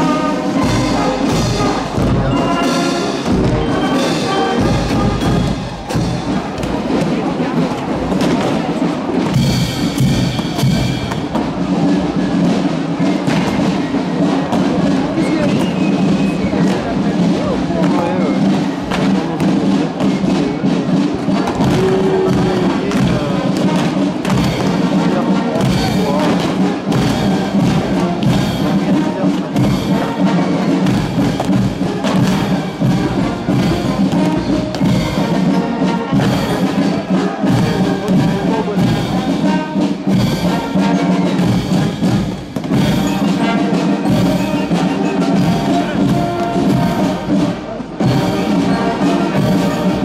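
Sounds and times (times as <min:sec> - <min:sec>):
brass marching band playing: 0:00.0 - 0:50.0
steady drumbeat: 0:00.0 - 0:50.0.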